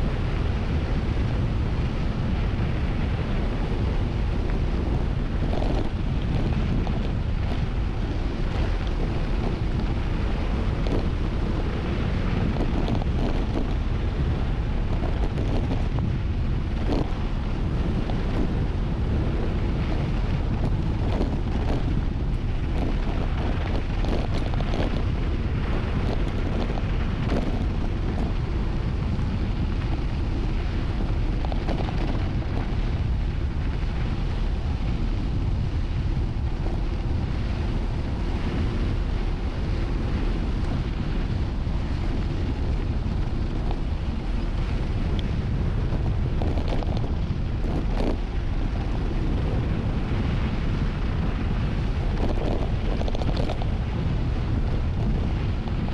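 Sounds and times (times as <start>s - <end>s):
wind buffeting microphone: 0.0s - 55.9s
bike rattles and knocks: 3.8s - 34.2s, 34.9s - 55.9s.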